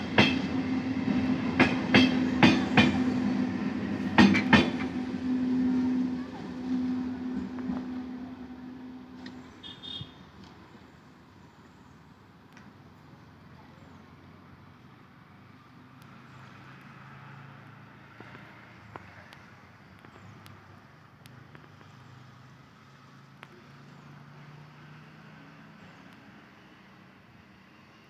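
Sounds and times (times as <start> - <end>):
train low hum: 0.0 - 28.0.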